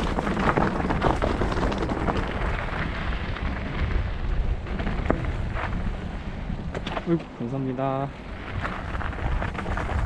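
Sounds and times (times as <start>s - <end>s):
bike tyres clattering over stones: 0.0s - 10.0s
wind buffeting microphone: 0.0s - 10.0s.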